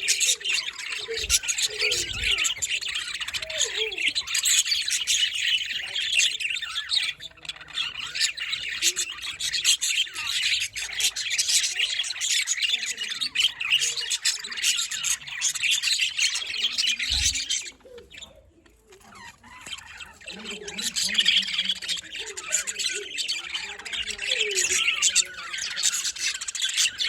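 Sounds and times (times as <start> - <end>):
small parrots chirping: 0.0 - 27.0.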